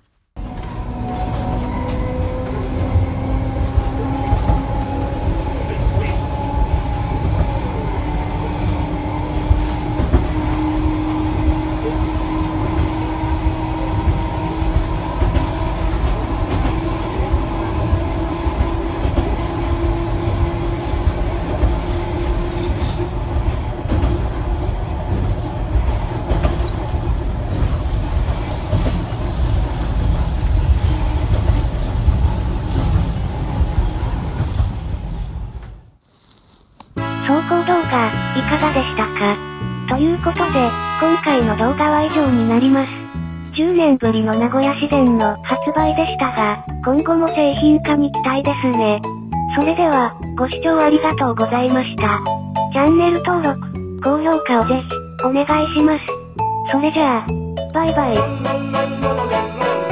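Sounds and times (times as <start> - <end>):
rail vehicle rumbling: 0.0 - 59.9.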